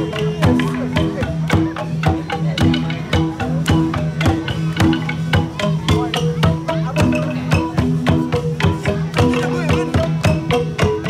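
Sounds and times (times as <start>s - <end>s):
gong ensemble playing: 0.0s - 11.0s.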